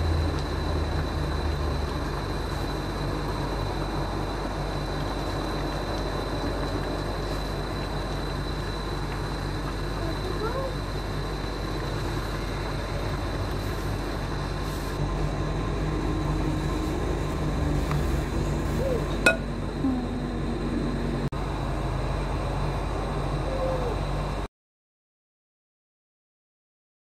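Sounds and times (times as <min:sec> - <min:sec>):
cooker fan hum: 0:00.0 - 0:24.5.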